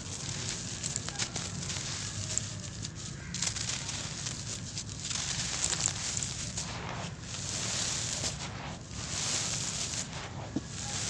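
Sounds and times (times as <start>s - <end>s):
dry clumps crumbling in hands: 0.0s - 11.0s
small sharp crackles: 0.0s - 11.0s.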